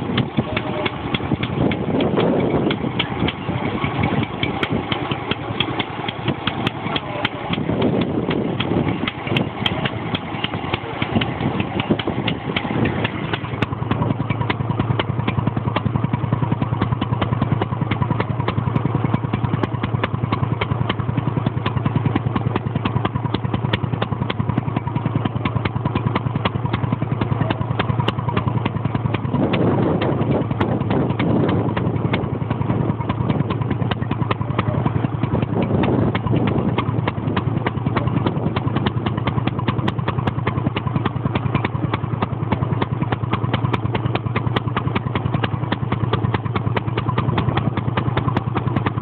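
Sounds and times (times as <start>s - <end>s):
stationary engine running: 0.0s - 49.0s.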